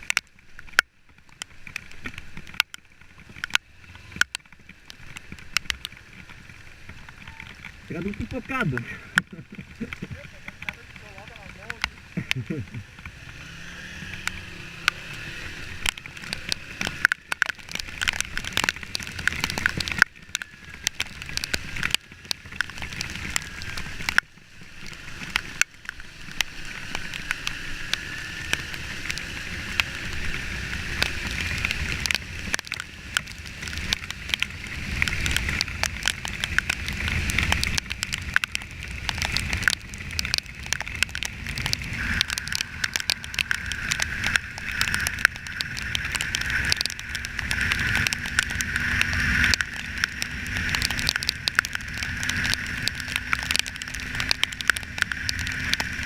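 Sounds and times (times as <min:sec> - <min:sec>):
raindrops ticking on camera: 0:00.0 - 0:56.0
wet road noise: 0:00.0 - 0:56.0
motorcycle engine: 0:01.0 - 0:56.0.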